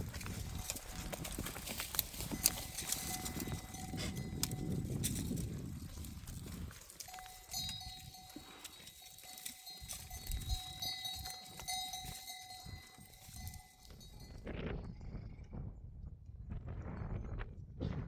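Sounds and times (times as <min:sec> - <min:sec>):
livestock bell ringing: 0:00.0 - 0:14.6
goats and sheep: 0:00.0 - 0:15.5.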